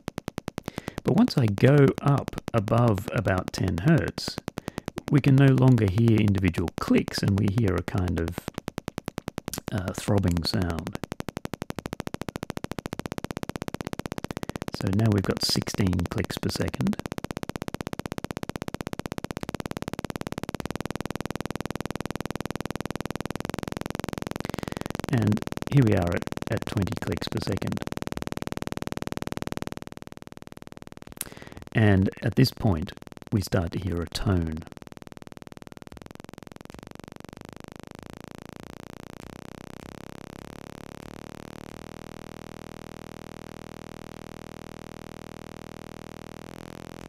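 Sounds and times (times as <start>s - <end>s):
low square wave clicking: 0.0s - 47.0s.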